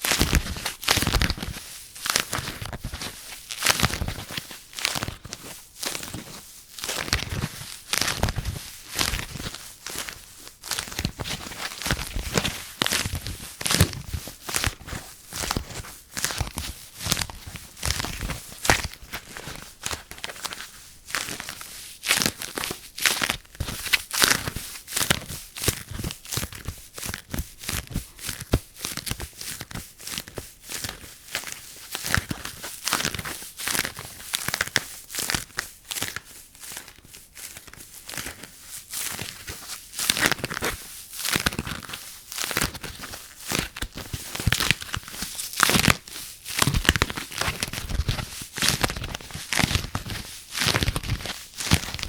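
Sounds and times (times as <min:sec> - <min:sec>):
material crinkling and rustling: 0:00.0 - 0:52.0.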